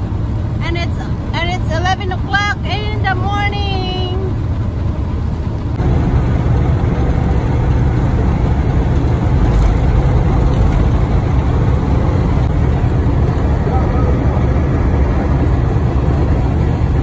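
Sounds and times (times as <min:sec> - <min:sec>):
truck diesel engine rumble: 0:00.0 - 0:17.0.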